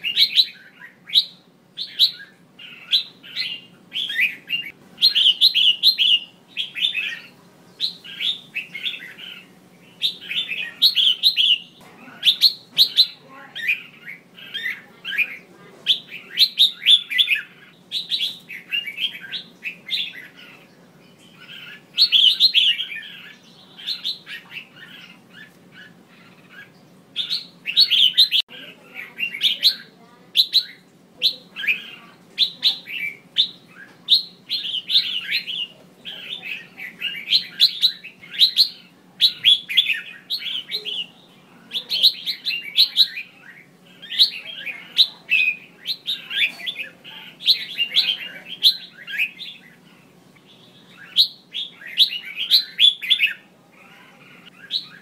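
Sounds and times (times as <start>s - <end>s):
bird chirping calls: 0.0s - 55.0s.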